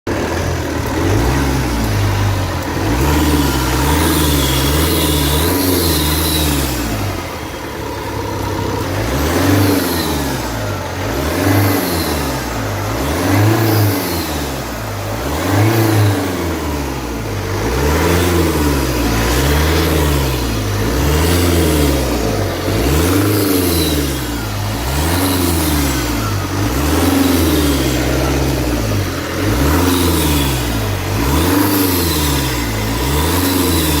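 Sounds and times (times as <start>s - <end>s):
diesel engine revving: 0.0s - 34.0s.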